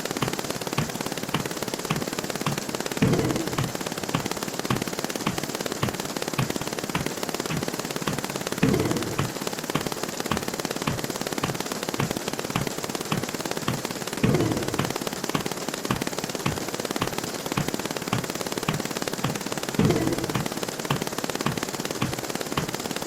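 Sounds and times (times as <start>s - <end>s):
rapid rattle of sharp clicks: 0.0s - 23.0s.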